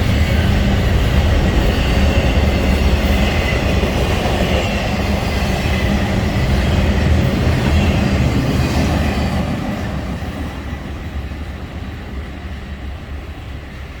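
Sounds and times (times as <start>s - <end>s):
freight train cars rolling on rails: 0.0s - 14.0s.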